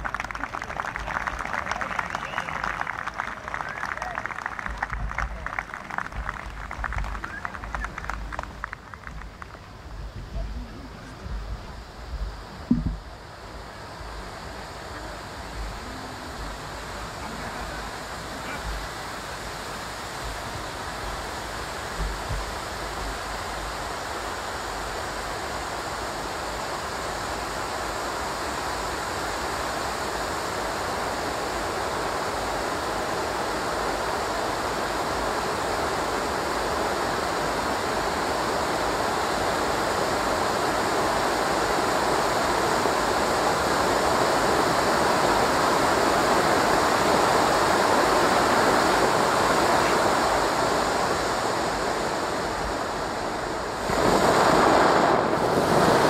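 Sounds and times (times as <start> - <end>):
firework fountains hissing: 0.0 - 56.0.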